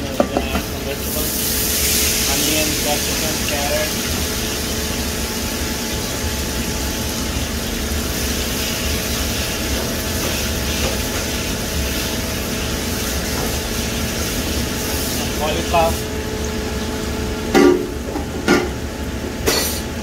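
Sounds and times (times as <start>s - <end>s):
vegetables sizzling in hot oil: 0.3s - 17.4s.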